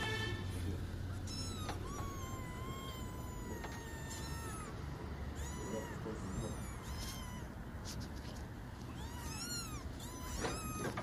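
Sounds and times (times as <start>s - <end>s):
high-pitched animal calls: 1.0s - 7.8s, 8.8s - 11.0s.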